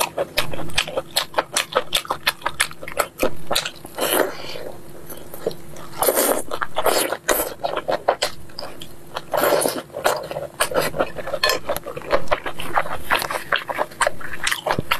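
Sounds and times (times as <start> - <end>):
wet chewing and lip smacking: 0.0 - 4.4, 5.4 - 14.9.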